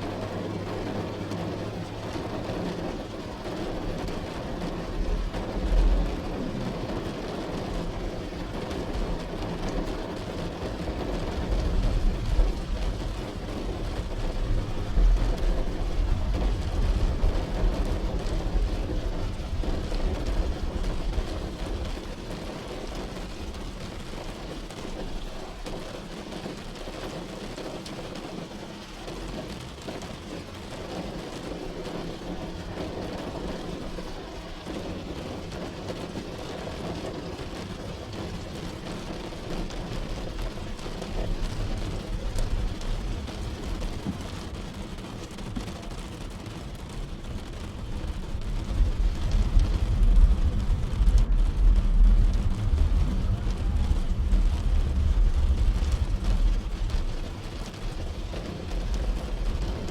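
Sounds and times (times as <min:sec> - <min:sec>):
car rumbling on the road: 0:00.0 - 0:59.9
rain falling on a car: 0:00.0 - 0:59.9.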